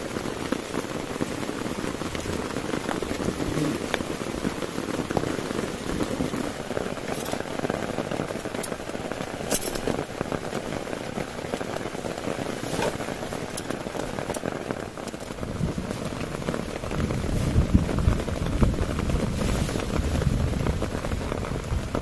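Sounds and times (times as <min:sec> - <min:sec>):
heavy rain pattering on a tent: 0:00.0 - 0:22.0.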